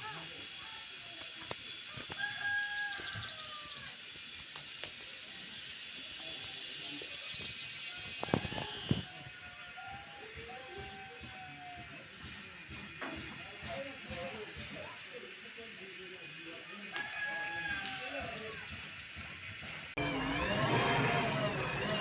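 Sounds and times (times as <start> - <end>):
birds trilling: 1.7 - 22.0.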